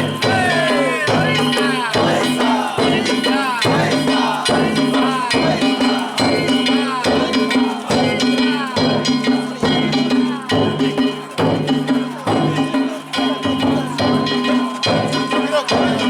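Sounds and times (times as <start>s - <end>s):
festival drums and gongs: 0.0s - 16.0s.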